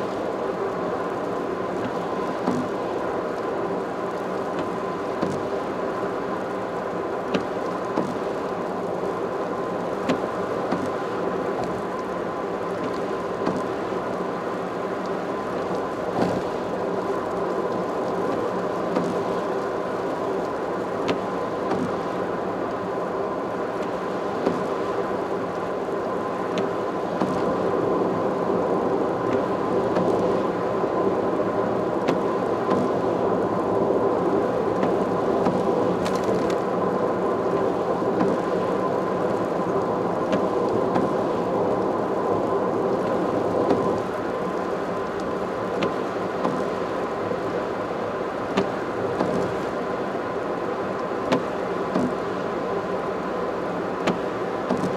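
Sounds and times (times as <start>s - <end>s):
faint steady whine: 0.0s - 54.9s.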